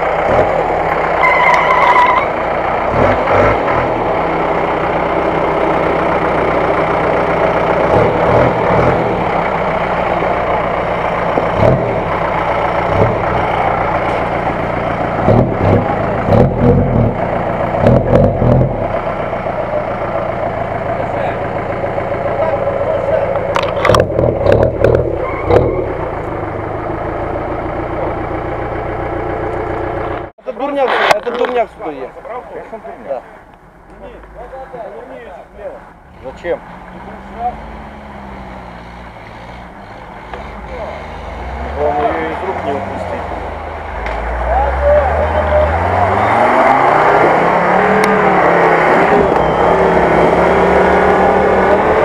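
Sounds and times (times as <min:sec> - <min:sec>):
off-road vehicle engine running: 0:00.0 - 0:52.0.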